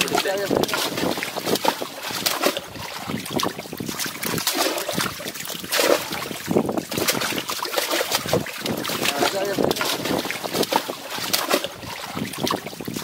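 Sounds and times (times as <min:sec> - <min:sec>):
fish splashing in water: 0:00.0 - 0:13.0.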